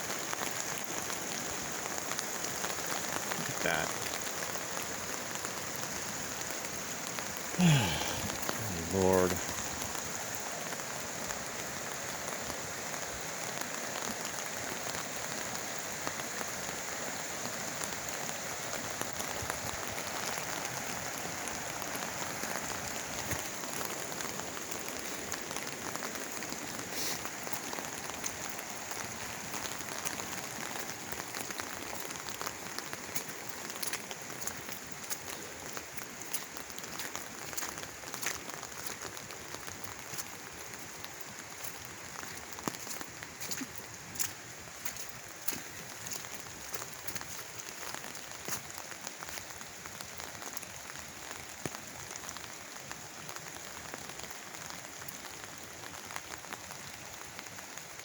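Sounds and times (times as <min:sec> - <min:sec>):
rain on an umbrella: 0:00.0 - 0:58.0.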